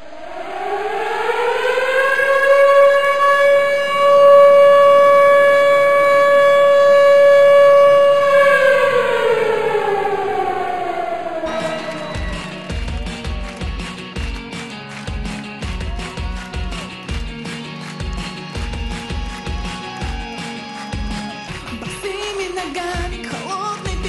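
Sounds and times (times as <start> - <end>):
air-raid siren: 0.0 - 21.6.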